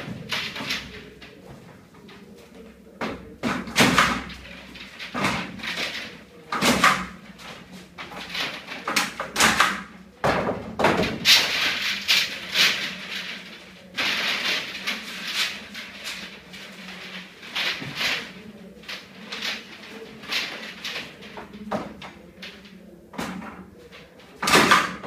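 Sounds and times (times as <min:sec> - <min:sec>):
plastic pipe rustling and scraping: 0:00.0 - 0:25.0.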